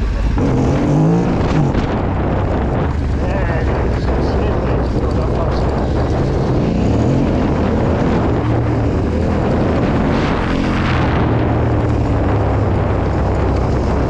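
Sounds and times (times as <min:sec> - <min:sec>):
motorcycle engine at low revs: 0:00.0 - 0:14.0
rush of noise: 0:00.0 - 0:14.0.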